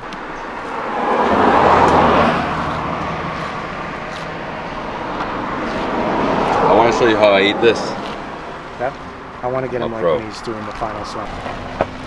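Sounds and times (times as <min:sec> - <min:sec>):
vehicle passing by: 0:00.3 - 0:12.0.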